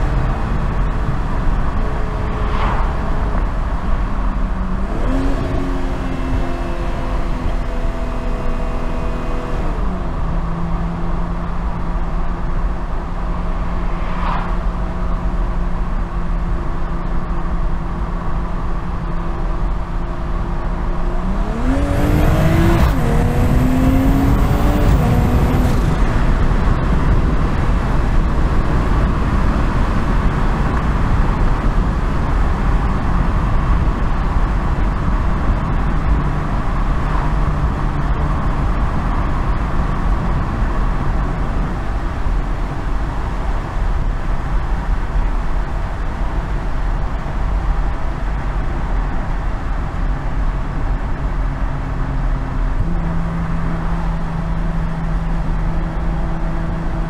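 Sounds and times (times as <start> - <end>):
car engine cruising and accelerating: 0.0 - 57.0
road noise: 0.0 - 57.0.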